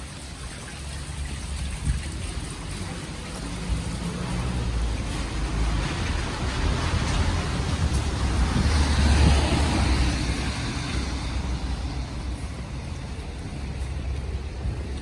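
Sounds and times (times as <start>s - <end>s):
car passing by: 1.0s - 15.0s
steady low rumble: 1.4s - 15.0s.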